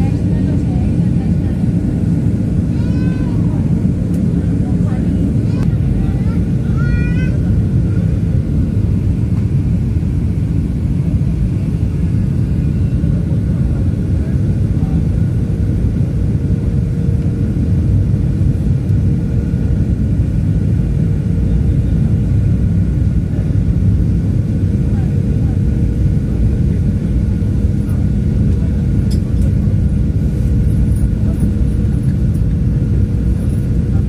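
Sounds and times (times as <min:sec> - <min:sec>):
jet engine and airflow rumble: 0:00.0 - 0:34.0.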